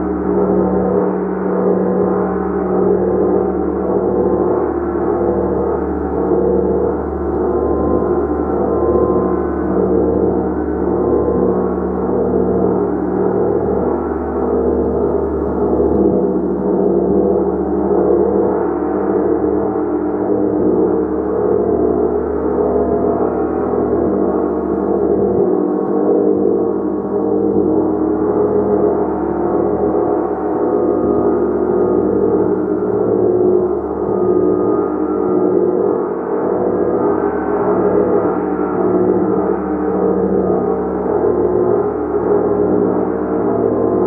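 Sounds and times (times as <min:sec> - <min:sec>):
gong sustained wash: 0:00.0 - 0:44.0.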